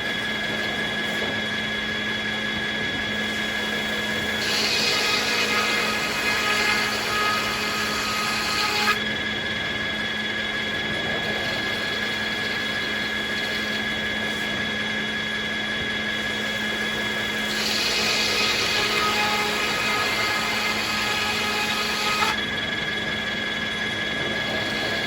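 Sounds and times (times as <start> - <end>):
circular saw humming and whining: 0.0 - 25.0.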